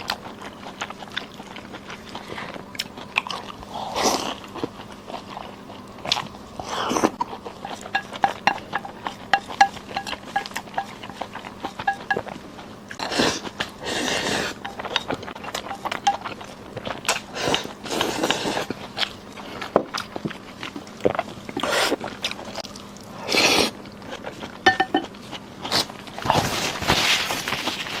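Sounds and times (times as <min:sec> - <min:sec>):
chewing and biting: 0:00.0 - 0:26.6.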